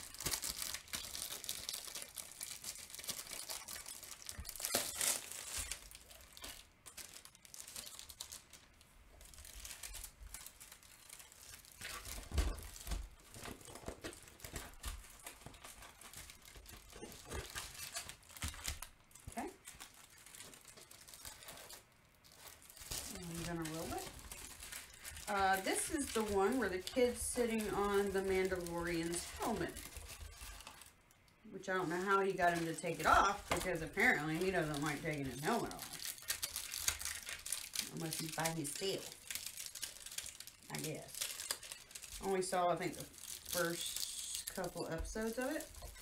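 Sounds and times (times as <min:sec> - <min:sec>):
plastic sleeve crinkling: 0:00.0 - 0:46.0.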